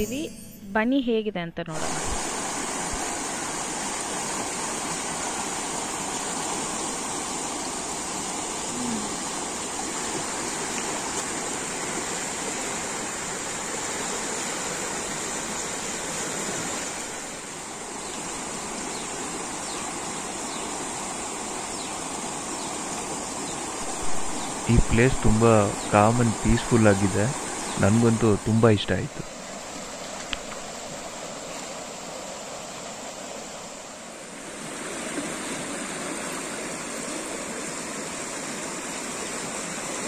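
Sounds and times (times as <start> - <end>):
river rushing over rocks: 1.8 - 40.0.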